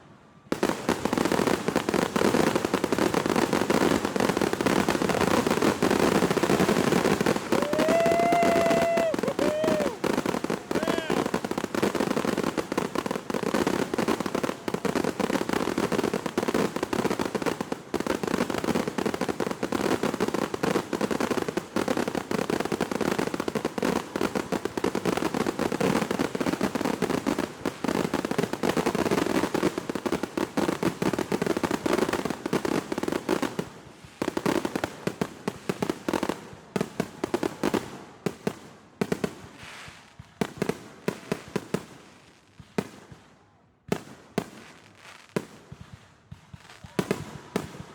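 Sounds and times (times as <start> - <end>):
fireworks popping and banging: 0.5 - 47.9.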